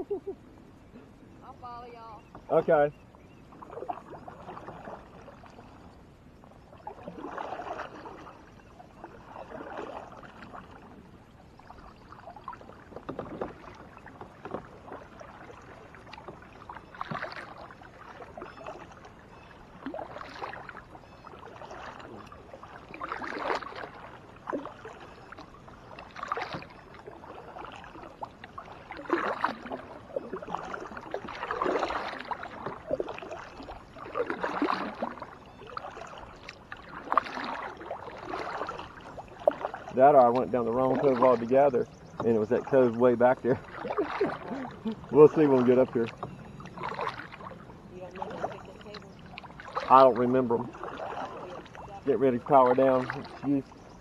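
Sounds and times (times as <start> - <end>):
paddle splashing through water: 0.8 - 54.0.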